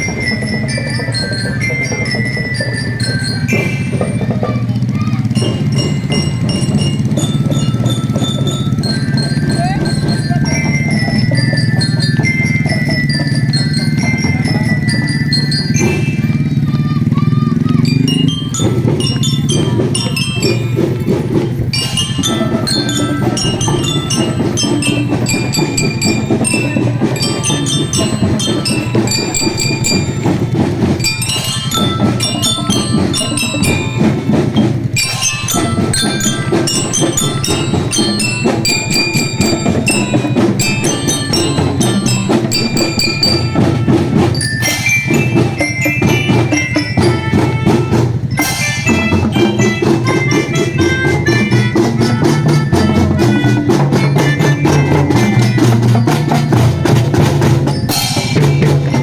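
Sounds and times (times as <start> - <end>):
glockenspiel melody: 0.0 - 59.0
marching drums: 0.0 - 59.0.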